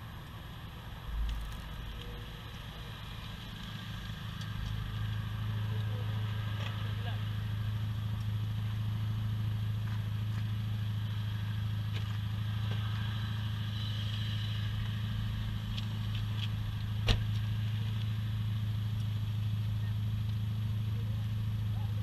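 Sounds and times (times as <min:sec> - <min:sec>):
motorcycle engine humming: 0:00.0 - 0:22.0.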